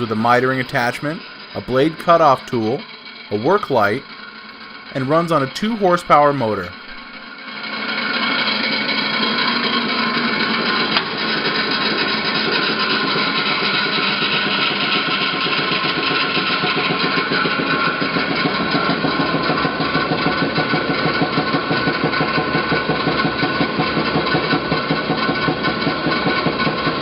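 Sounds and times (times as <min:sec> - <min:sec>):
bandsaw running: 0:00.0 - 0:27.0.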